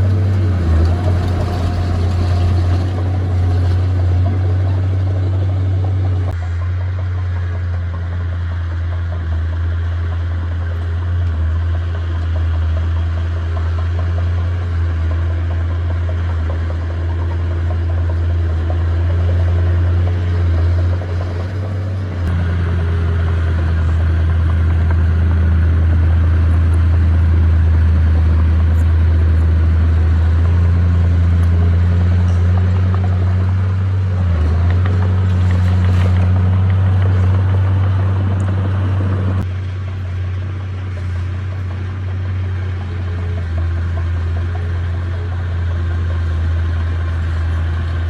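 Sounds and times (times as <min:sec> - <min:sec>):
heavy machine diesel engine: 0:00.0 - 0:48.0.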